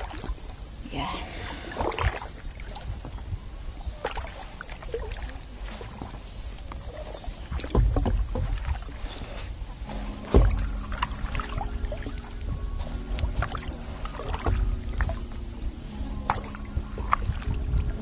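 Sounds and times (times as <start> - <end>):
low rumble on microphone: 0.0 - 18.0
paddle splashing in water: 0.0 - 18.0.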